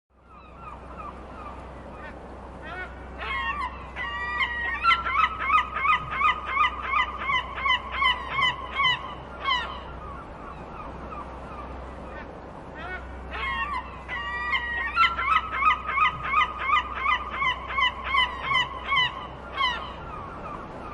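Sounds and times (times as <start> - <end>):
gulls calling: 0.1 - 20.9.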